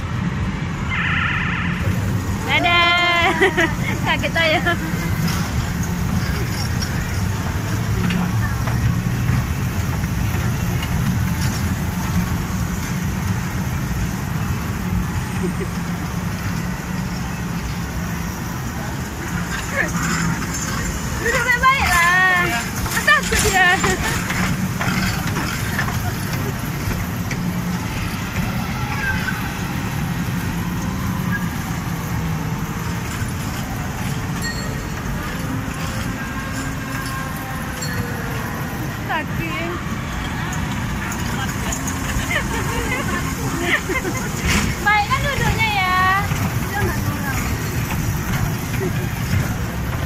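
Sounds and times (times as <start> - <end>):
busy amusement hall din: 0.0 - 50.0
machinery hum and rumble: 0.0 - 50.0.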